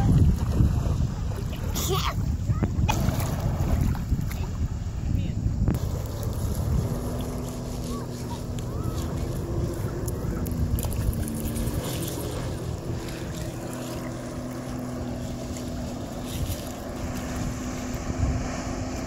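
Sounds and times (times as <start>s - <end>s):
personal watercraft engine running: 0.0s - 19.0s.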